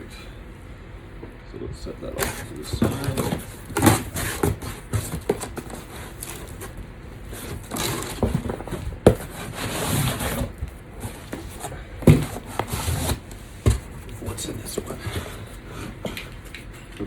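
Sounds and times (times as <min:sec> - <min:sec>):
cardboard packaging rustling: 0:02.2 - 0:16.7.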